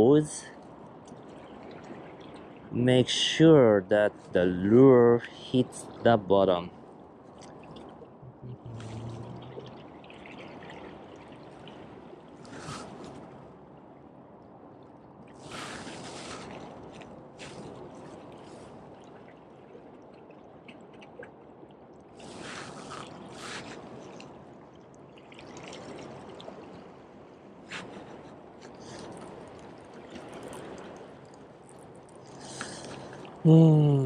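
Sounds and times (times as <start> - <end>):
water splashes: 0.0 - 4.4, 5.1 - 13.7, 14.8 - 34.0
small waves lapping against rocks: 0.0 - 14.0, 14.7 - 33.5.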